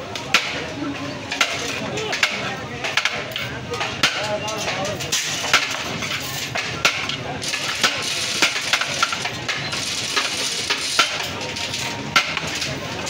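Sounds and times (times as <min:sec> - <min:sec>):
background hubbub: 0:00.0 - 0:13.0.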